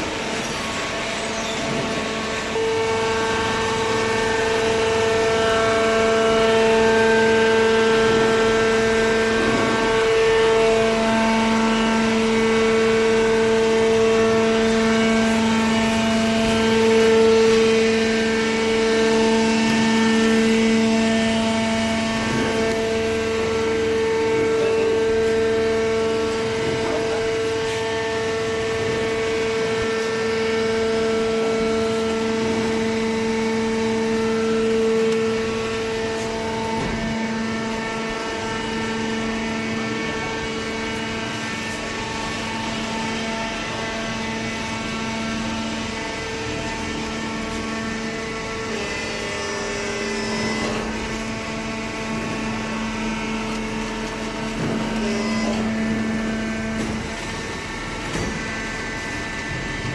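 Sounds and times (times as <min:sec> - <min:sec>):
hydraulic motor hum with whine: 0:00.0 - 0:59.9.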